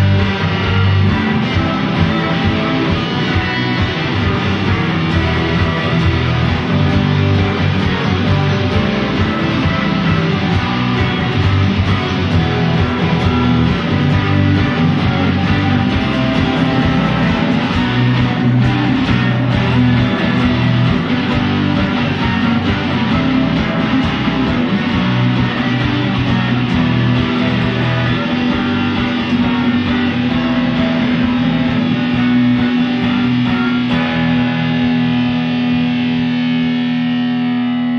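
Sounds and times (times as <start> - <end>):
distorted electric guitar: 0.0 - 37.9
rock band instrumental: 0.0 - 37.9.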